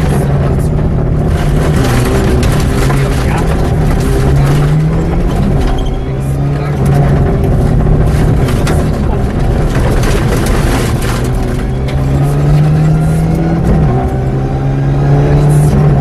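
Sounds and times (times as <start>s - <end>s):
car engine running hard: 0.0s - 16.0s
road and tyre noise: 0.0s - 16.0s.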